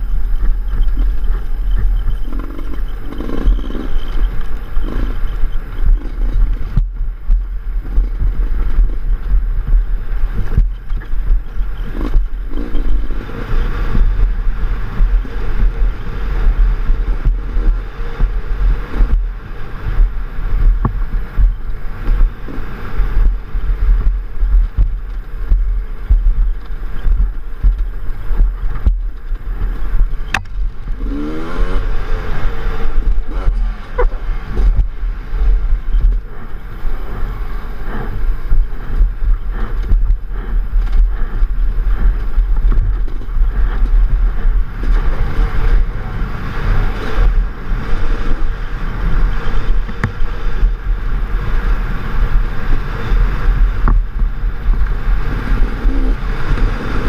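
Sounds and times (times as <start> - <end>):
dirt bike engine: 0.0 - 57.0
wind and bumps on microphone: 0.0 - 57.0.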